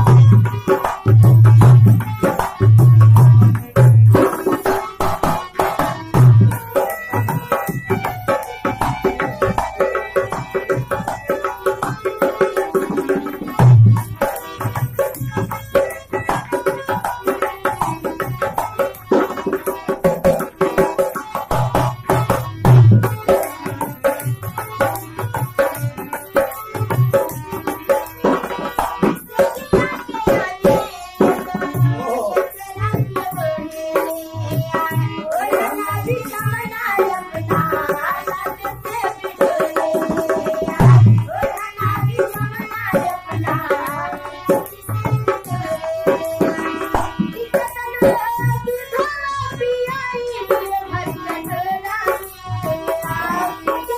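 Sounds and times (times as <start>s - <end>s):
harmonium sustained chords: 0.0s - 39.3s, 40.5s - 53.9s
dholak drum beating: 0.0s - 53.9s
woman singing: 0.0s - 53.9s.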